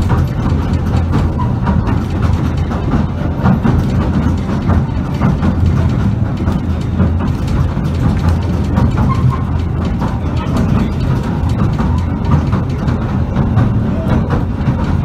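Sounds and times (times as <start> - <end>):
train rumbling along track: 0.0 - 15.0
wheels rattling and clicking: 0.0 - 15.0.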